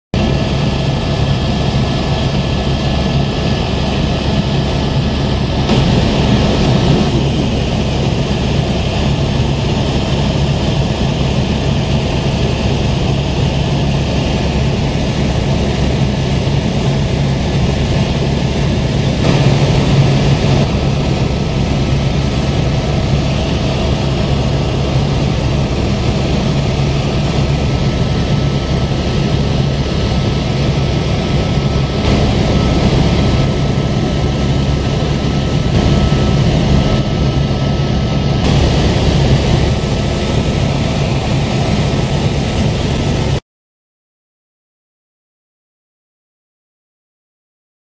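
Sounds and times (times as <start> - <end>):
aircraft engine drone: 0.2 - 43.4.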